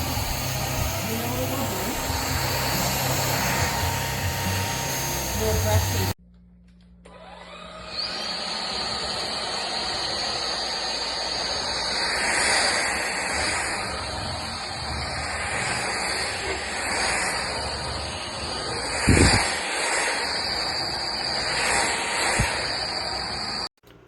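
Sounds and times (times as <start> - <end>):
stick vacuum running: 0.0 - 6.2, 6.8 - 24.0.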